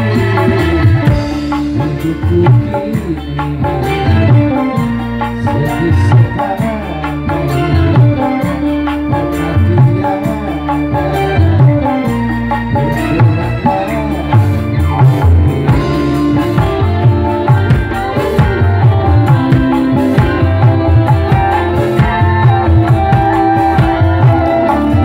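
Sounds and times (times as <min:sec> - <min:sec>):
hand drums fast rhythm: 0:00.0 - 0:12.0, 0:12.8 - 0:25.0
keyboard and strings melody: 0:00.0 - 0:25.0.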